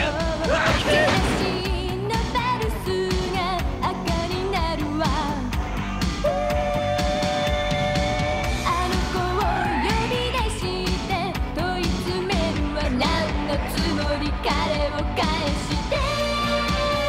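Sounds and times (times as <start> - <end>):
pop-rock song with singing: 0.0 - 17.0.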